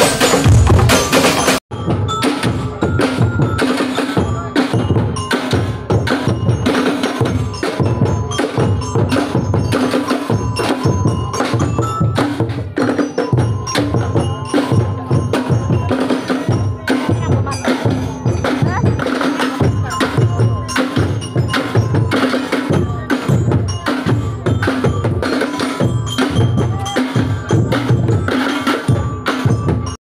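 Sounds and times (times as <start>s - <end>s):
percussion group drumming: 0.0s - 30.0s.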